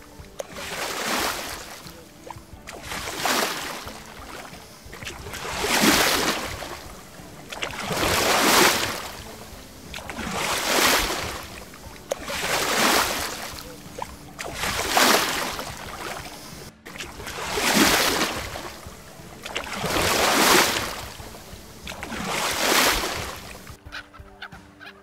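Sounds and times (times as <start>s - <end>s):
sea waves washing: 0.0s - 23.8s.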